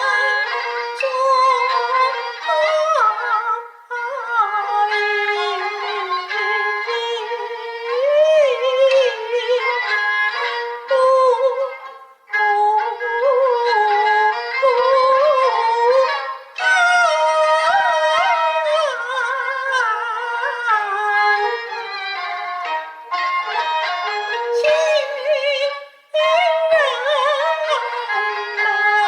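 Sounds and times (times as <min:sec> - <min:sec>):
bowed fiddle sliding melody: 0:00.0 - 0:29.0.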